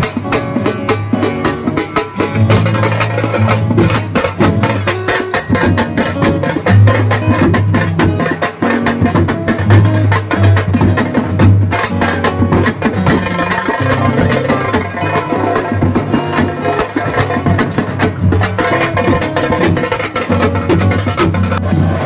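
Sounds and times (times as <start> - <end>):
drum-heavy music with deep bass: 0.0 - 22.0.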